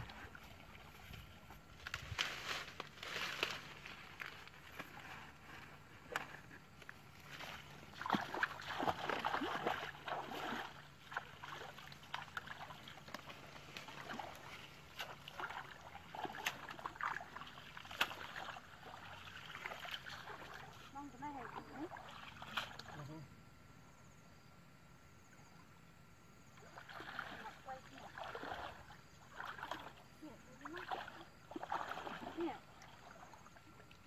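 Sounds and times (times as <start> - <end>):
shallow water splashing: 0.0 - 23.1, 26.4 - 34.0.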